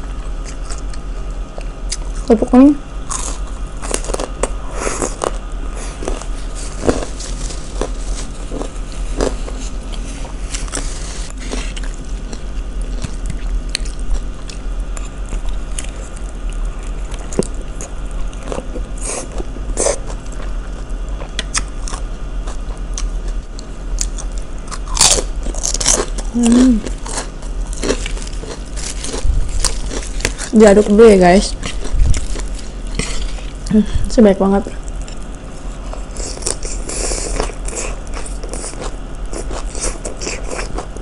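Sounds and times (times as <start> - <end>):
crunchy chewing: 0.0 - 2.3, 3.0 - 33.8, 34.8 - 41.0.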